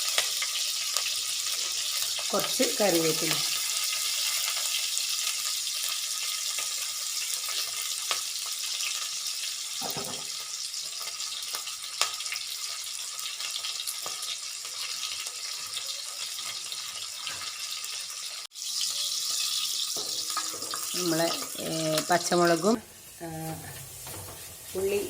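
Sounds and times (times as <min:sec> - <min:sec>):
spices sizzling in hot oil: 0:00.0 - 0:25.0.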